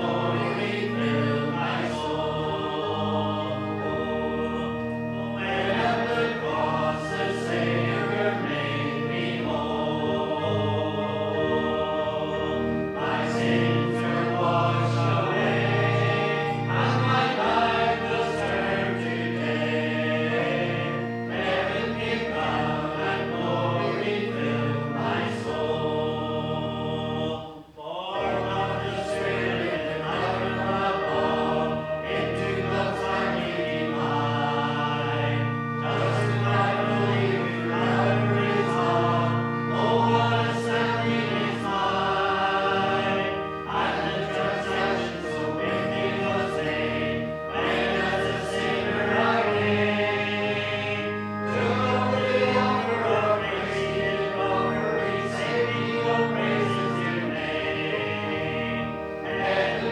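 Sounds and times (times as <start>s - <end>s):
congregation singing a hymn: 0.0s - 59.9s
sustained instrumental accompaniment: 0.0s - 59.9s.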